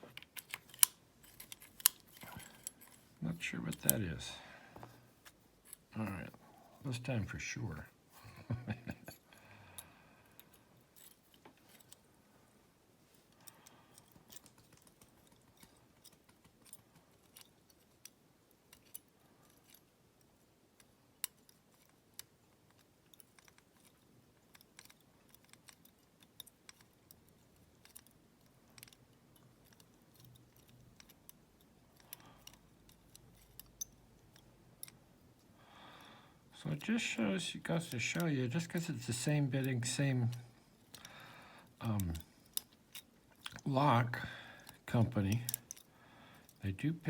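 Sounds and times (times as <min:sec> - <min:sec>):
lock picking tools clicking: 0:00.1 - 0:04.1, 0:09.0 - 0:12.0, 0:13.3 - 0:20.0, 0:20.6 - 0:35.5, 0:36.8 - 0:46.6.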